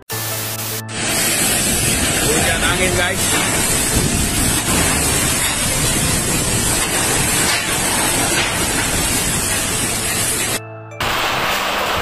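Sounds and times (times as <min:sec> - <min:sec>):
heavy rain: 0:00.1 - 0:12.0
strong storm wind: 0:01.0 - 0:10.6.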